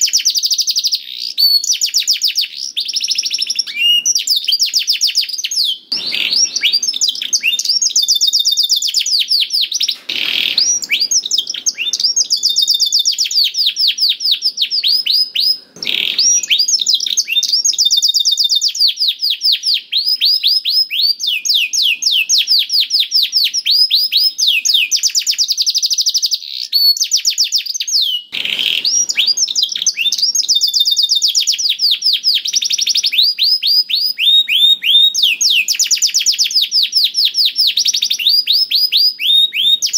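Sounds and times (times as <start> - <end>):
canary singing high trills: 0.0 - 25.4, 26.3 - 39.9.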